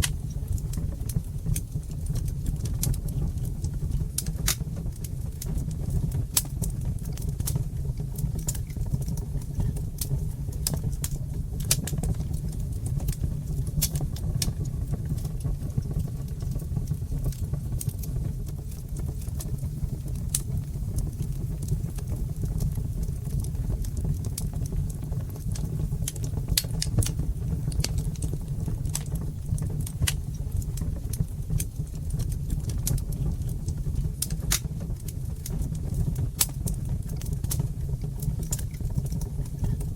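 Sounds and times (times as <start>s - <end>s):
fire crackles and pops: 0.0s - 39.9s
wood fire rumbling: 0.0s - 39.9s.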